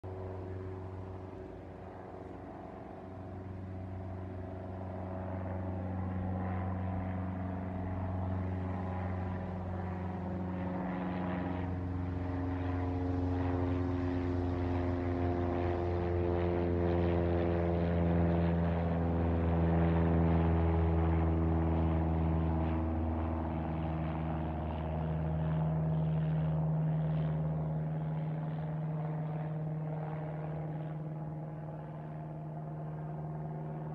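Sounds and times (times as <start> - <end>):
propeller plane engine drone: 0.0 - 33.9.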